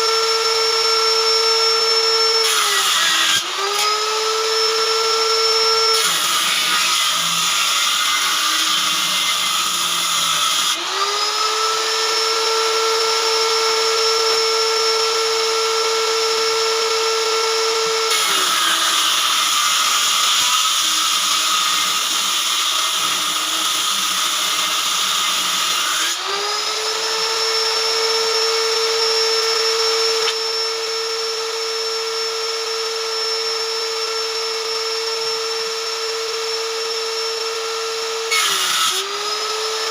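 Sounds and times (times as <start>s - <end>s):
power tool whining: 0.0s - 39.9s
tool cutting through wood: 0.0s - 39.9s.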